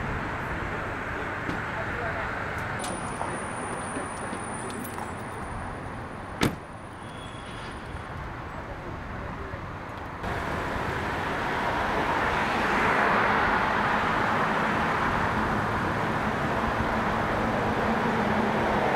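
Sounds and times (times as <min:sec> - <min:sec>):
road traffic hiss: 0:00.0 - 0:18.9.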